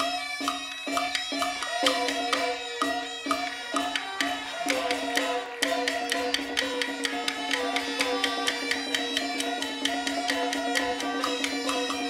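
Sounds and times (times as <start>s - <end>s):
gongs and cymbals percussion: 0.0s - 12.0s.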